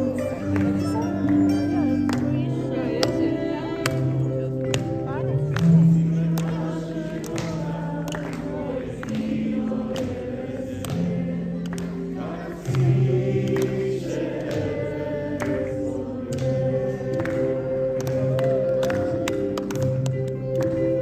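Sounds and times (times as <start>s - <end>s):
choir singing long notes: 0.0s - 4.6s, 5.8s - 20.1s.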